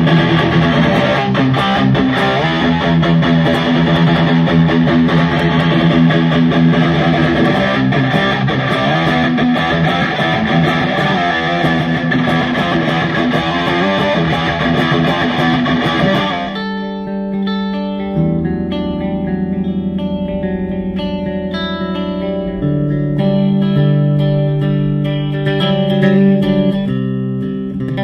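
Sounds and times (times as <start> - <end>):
distorted electric guitar: 0.0 - 28.0.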